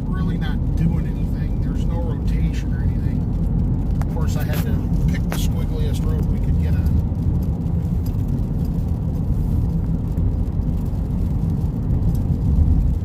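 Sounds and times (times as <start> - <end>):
road and engine rumble in cabin: 0.0 - 13.0.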